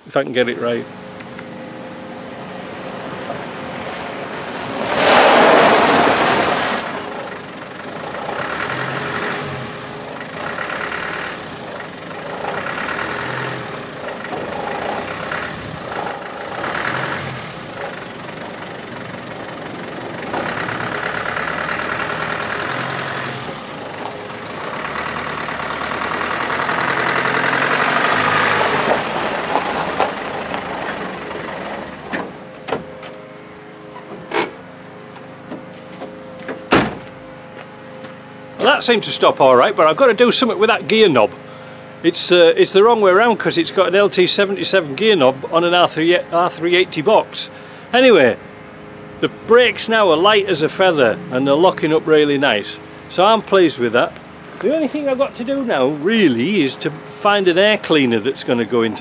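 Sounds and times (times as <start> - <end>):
diesel engine driving on gravel: 0.0 - 59.0.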